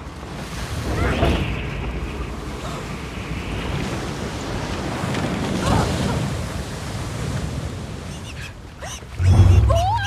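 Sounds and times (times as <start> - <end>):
water rushing along a boat hull: 0.0 - 10.0
wind: 0.0 - 10.0.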